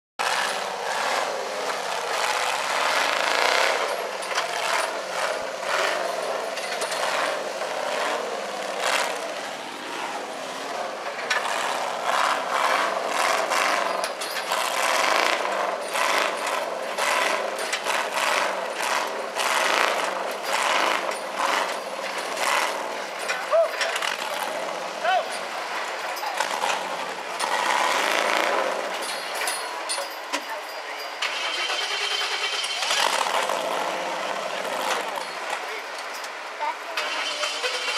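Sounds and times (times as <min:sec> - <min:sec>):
buggy engine revving hard: 0:00.2 - 0:29.9, 0:31.2 - 0:35.9, 0:36.7 - 0:37.9.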